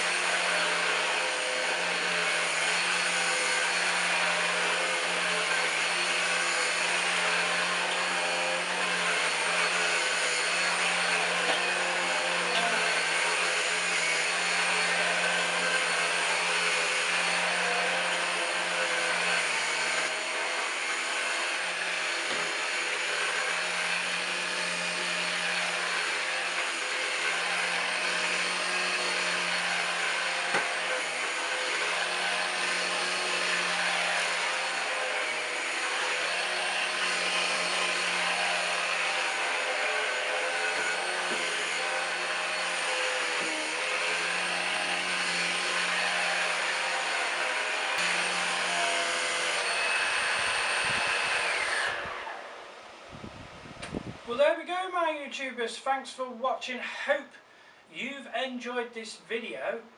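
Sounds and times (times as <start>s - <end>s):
stick vacuum running: 0.0s - 52.9s.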